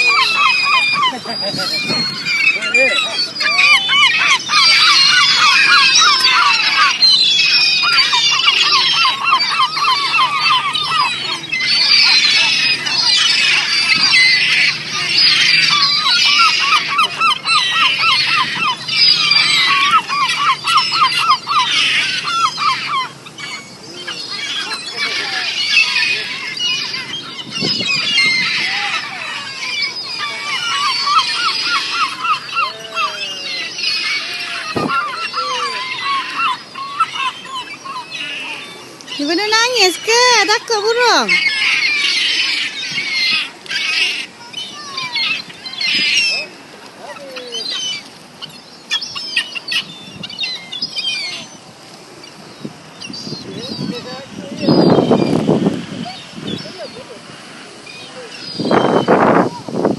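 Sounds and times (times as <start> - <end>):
flock of birds squawking: 0.0 - 59.9.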